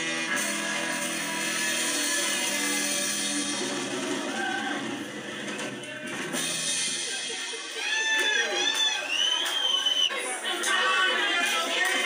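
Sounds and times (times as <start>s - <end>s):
rock band playing through tv speaker: 0.0s - 12.0s.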